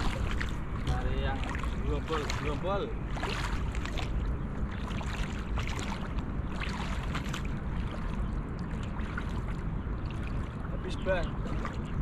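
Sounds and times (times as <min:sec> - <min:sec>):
water sloshing around legs: 0:00.0 - 0:12.0
wind rumble on microphone: 0:00.0 - 0:12.0.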